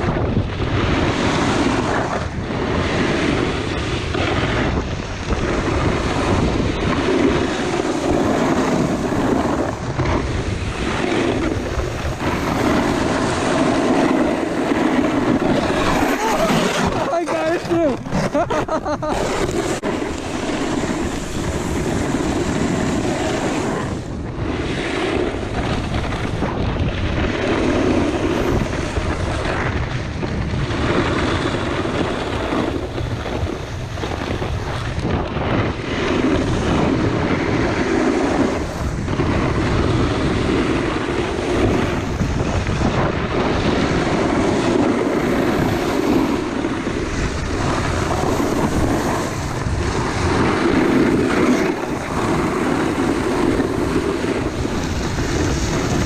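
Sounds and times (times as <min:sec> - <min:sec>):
snowboard edges scraping icy snow: 0:00.0 - 0:56.0
wind rushing over microphone: 0:00.0 - 0:56.0.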